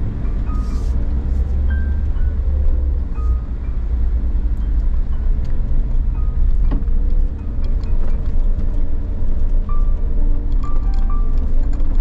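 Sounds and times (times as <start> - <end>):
car engine droning from inside: 0.0 - 12.0.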